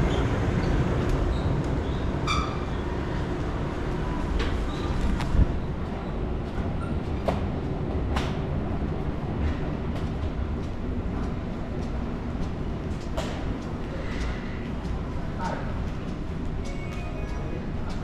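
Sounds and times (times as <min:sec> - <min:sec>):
low rumble of metro passage: 0:00.0 - 0:18.0.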